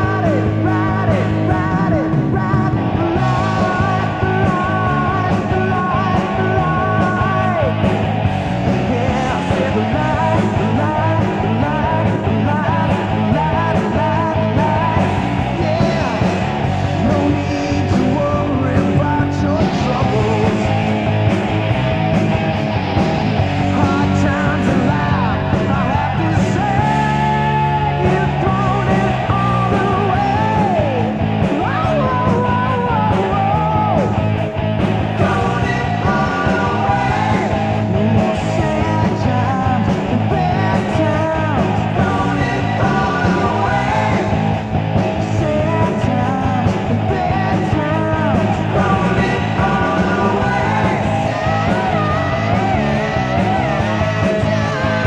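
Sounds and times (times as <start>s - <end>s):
lead vocalist singing: 0.0s - 8.0s, 8.7s - 21.0s, 23.6s - 34.4s, 35.0s - 55.0s
hard rock band playing: 0.0s - 55.0s.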